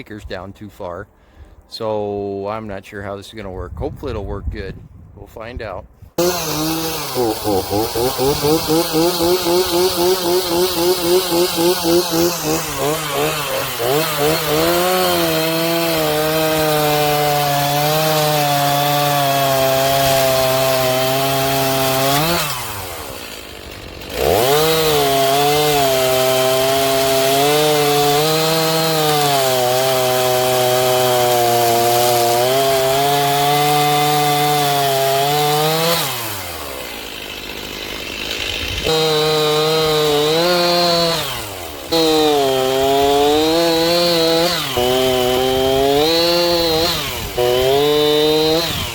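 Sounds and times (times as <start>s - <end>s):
chainsaw cutting logs: 6.2s - 48.9s.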